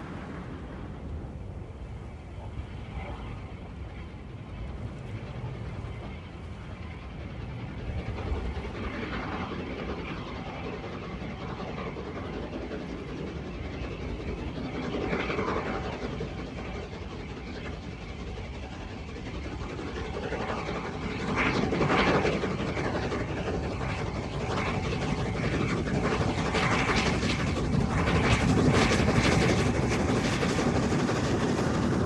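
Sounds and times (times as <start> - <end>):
steam locomotive approaching: 0.0 - 32.0.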